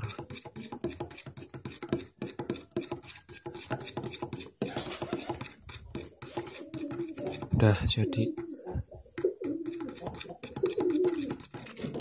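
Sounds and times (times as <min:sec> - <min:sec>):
metal utensil stirring in plastic bowl: 0:00.0 - 0:12.0.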